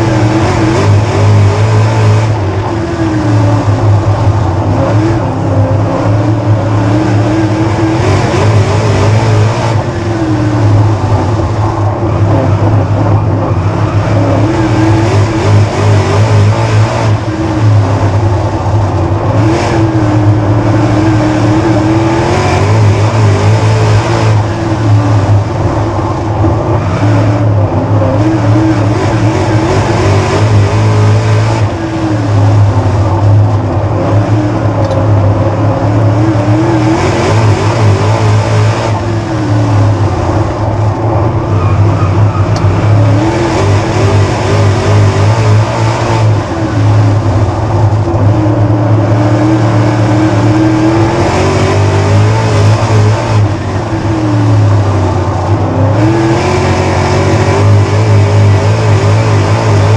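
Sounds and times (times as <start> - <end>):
race car engine rising and falling: 0.0 - 59.9.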